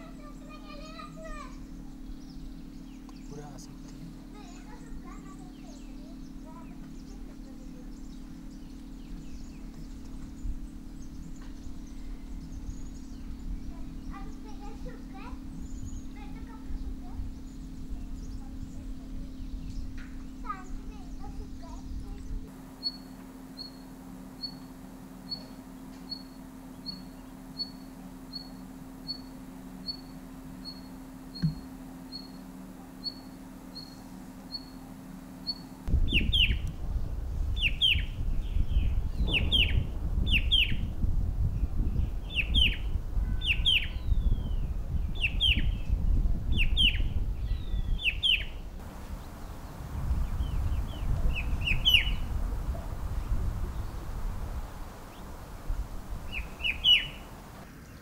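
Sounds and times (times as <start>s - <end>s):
downward-slurred bird calls: 0.0s - 36.6s, 37.5s - 41.0s, 41.8s - 57.7s.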